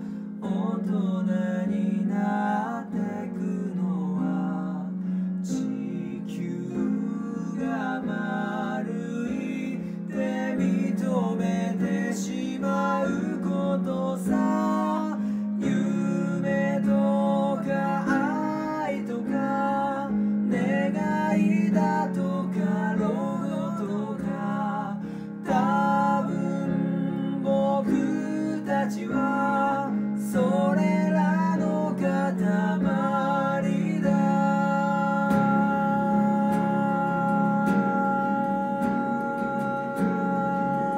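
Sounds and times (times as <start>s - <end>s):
acoustic guitar: 0.0s - 1.0s, 6.2s - 40.9s
man singing a ballad: 0.0s - 40.9s.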